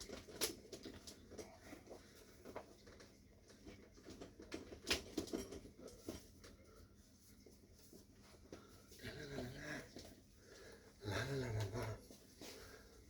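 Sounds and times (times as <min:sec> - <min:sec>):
rustling of hands and clothing: 0:00.0 - 0:13.0.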